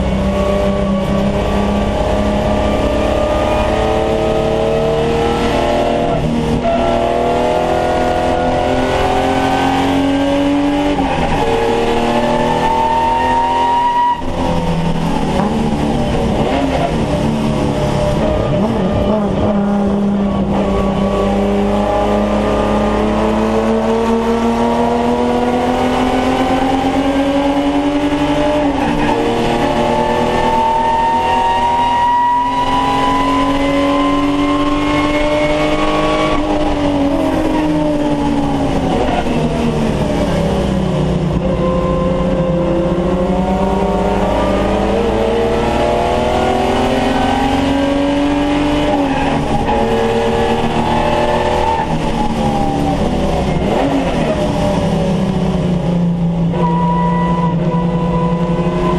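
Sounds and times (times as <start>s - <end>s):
car engine racing under load: 0.0s - 58.9s.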